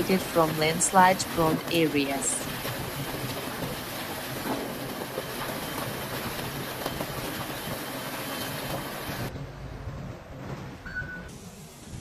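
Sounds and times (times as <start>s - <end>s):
wind and rain rushing: 0.0s - 12.0s.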